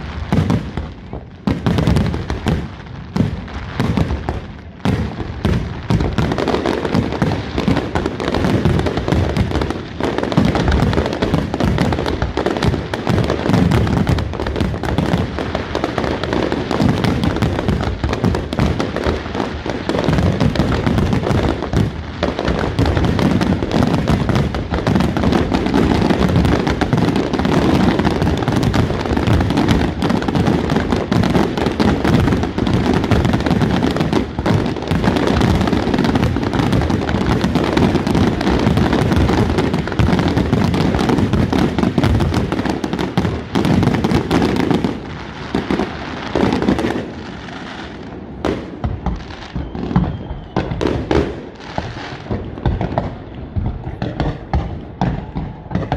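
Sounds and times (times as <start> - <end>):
deep firework booms: 0.0 - 55.9
firework shell bursts and crackling: 0.0 - 55.9.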